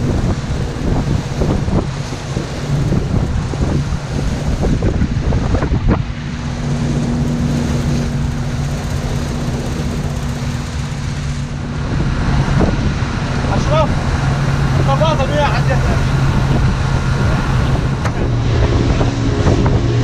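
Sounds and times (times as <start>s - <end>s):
outboard motors running: 0.0s - 20.0s
rush of wake water: 0.0s - 20.0s
wind buffeting microphone: 0.0s - 20.0s.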